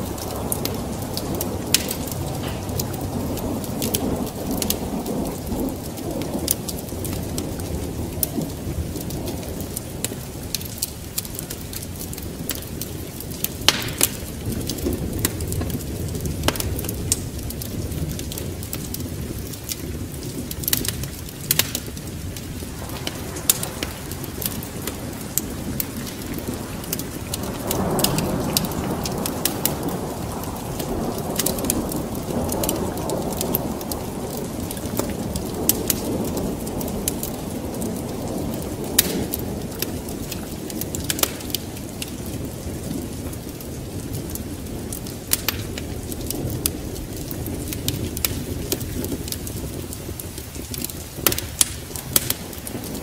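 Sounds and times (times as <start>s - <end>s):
rain: 0.0s - 53.0s
thunder rumbling: 0.0s - 53.0s
wood fire crackling and popping: 0.0s - 53.0s.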